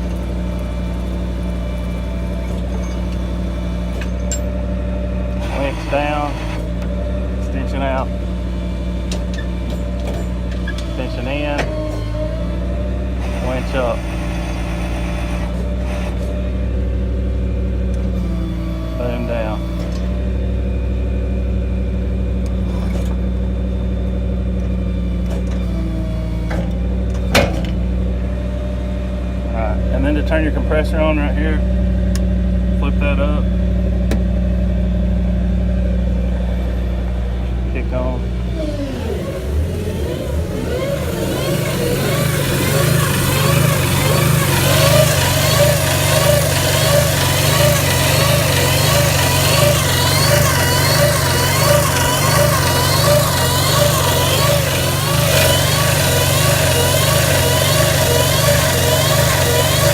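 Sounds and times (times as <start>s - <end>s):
air compressor running: 0.0s - 20.6s, 25.5s - 59.9s
truck engine running: 0.0s - 59.9s.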